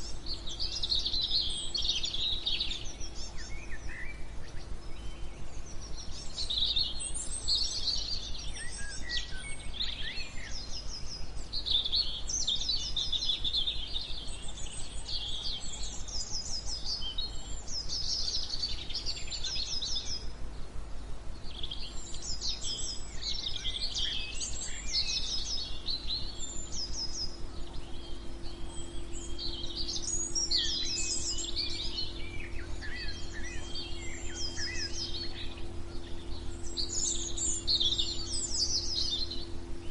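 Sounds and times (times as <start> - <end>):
songbirds chirping and singing: 0.0 - 39.9
white-noise hiss: 0.0 - 39.9.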